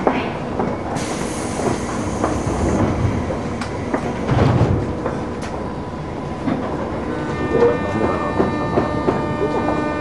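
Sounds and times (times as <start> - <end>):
train interior hum: 0.0 - 10.0.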